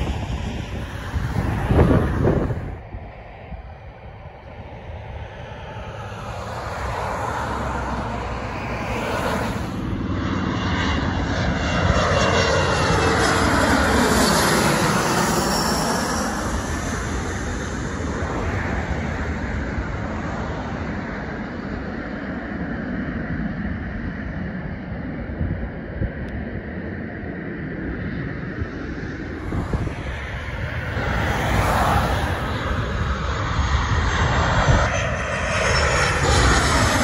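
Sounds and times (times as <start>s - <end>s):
jet engine whine: 0.0s - 37.0s
jet engines passing overhead: 0.0s - 37.0s.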